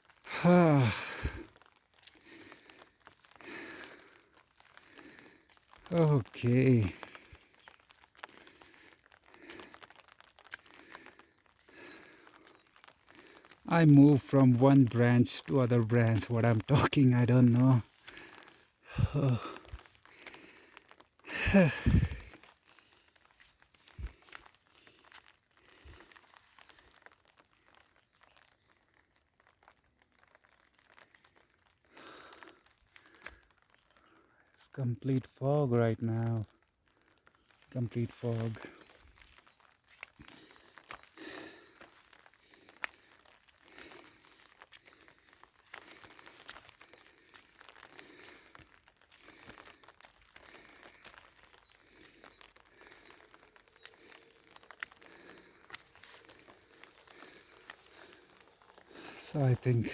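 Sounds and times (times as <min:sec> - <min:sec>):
footsteps crunching on a path: 0:00.0 - 0:34.5, 0:36.1 - 0:59.9
faint crackling and rustling: 0:00.0 - 0:59.9
small crinkling clicks: 0:00.0 - 0:59.9.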